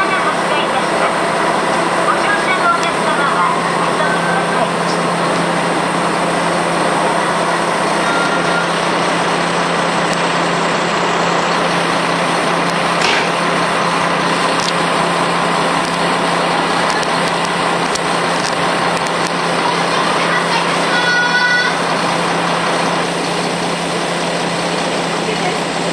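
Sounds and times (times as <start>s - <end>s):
diesel railcar engine idling: 0.0s - 25.9s.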